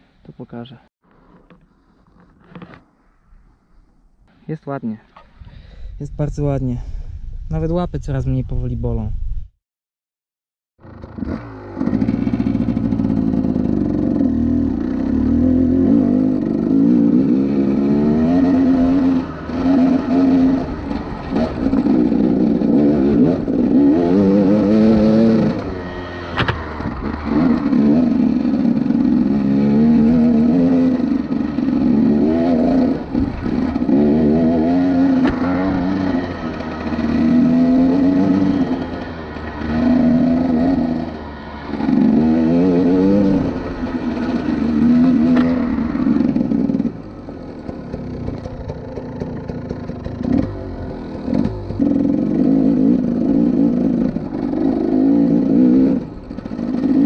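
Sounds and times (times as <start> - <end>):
dirt bike engine revving: 10.8 - 57.0.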